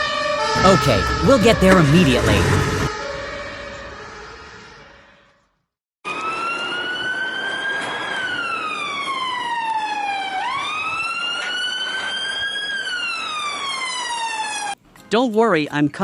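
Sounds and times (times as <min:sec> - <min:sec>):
wailing siren: 0:00.0 - 0:05.0, 0:06.1 - 0:14.7.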